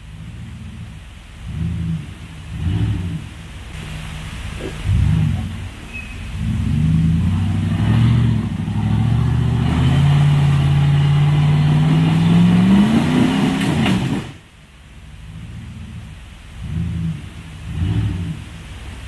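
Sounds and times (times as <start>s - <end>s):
off-road vehicle engine revving: 0.0s - 14.4s, 15.1s - 19.0s.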